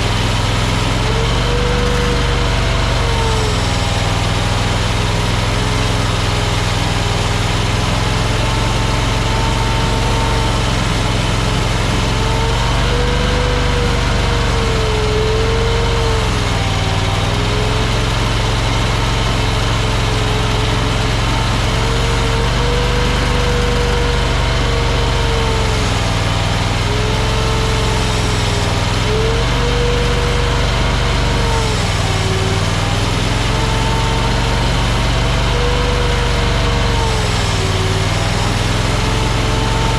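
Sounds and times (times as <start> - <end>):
track loader engine running: 0.0 - 39.9.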